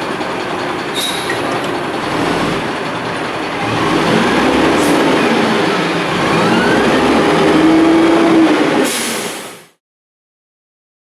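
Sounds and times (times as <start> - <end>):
garbage truck diesel engine: 0.0 - 9.8.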